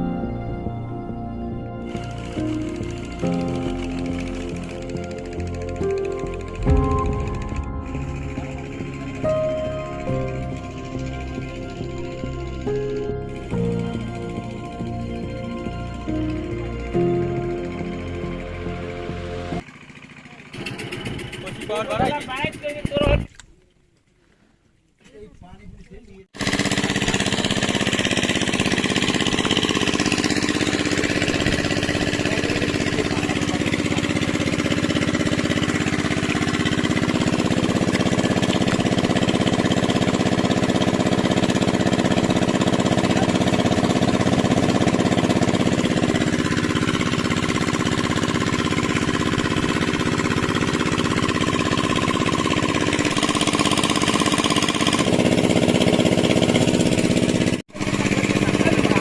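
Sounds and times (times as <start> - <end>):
engine-driven pump chugging: 0.0 - 23.2, 26.3 - 59.0.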